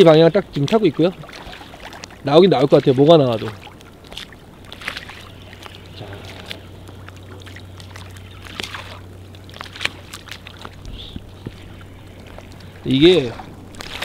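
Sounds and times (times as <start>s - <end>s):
steady low hum: 0.0s - 14.0s
water splashing against hulls: 0.0s - 14.0s.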